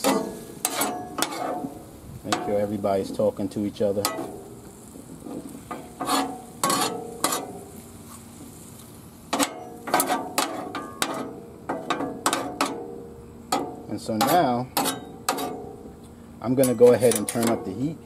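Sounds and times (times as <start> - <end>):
spatulas scraping on griddle: 0.0 - 15.8, 16.5 - 17.8.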